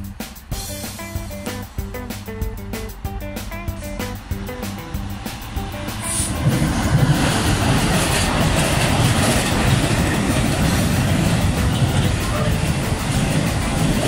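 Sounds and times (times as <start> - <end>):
diesel locomotive engine running: 0.0 - 14.0
train wheels running on rails: 0.0 - 14.0.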